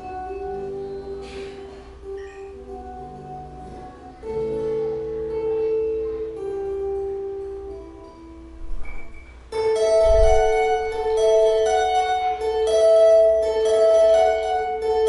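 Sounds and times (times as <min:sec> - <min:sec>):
acoustic guitar duo: 0:00.0 - 0:15.0.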